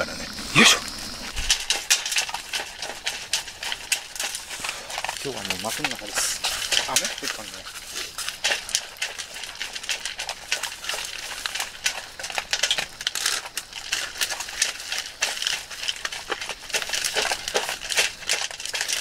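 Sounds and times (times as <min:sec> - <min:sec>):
dogs chewing food: 0:00.0 - 0:19.0
food bowls clinking: 0:00.1 - 0:19.0.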